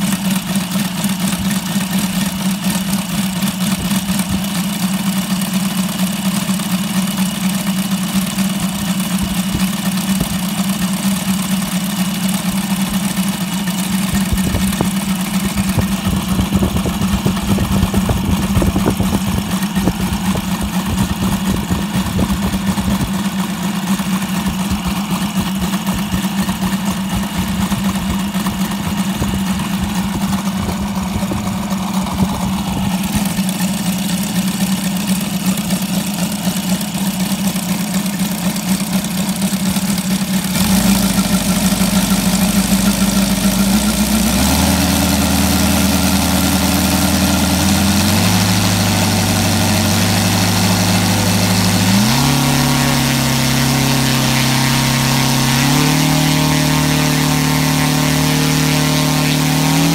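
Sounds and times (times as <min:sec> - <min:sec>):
radial engine running: 0:00.0 - 0:59.9.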